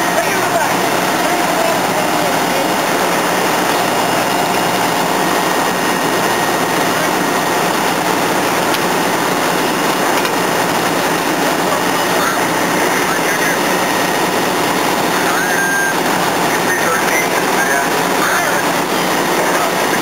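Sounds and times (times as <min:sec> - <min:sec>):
fire engines running: 0:00.0 - 0:20.0
indistinct voices: 0:00.0 - 0:20.0.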